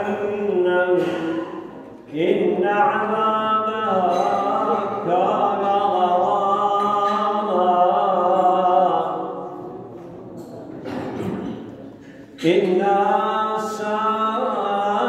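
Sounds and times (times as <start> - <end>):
man chanting melodically: 0.0 - 9.9, 12.4 - 15.0.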